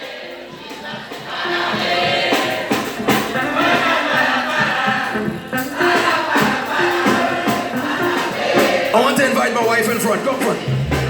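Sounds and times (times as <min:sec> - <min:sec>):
congregation singing: 0:00.0 - 0:11.0
gospel band music: 0:00.0 - 0:11.0.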